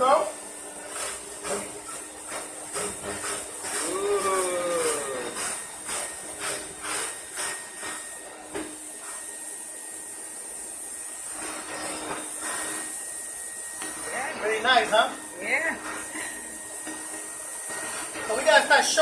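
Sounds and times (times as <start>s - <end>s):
vacuum cleaner motor running: 0.0s - 19.0s.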